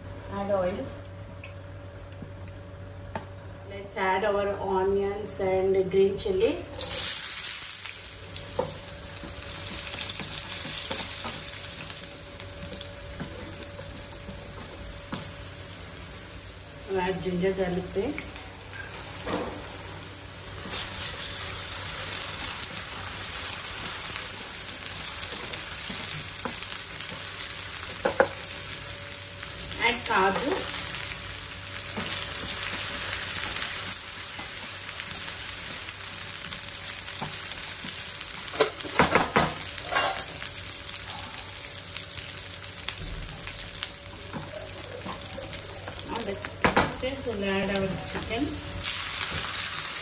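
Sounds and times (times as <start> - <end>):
onions sizzling in hot oil: 6.7 - 50.0.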